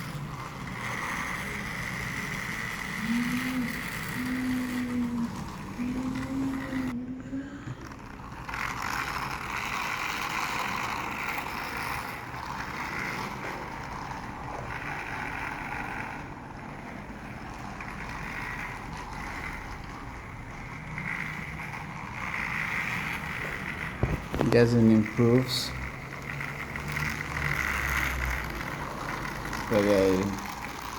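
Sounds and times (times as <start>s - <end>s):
toy train motor whirring: 0.0s - 30.9s.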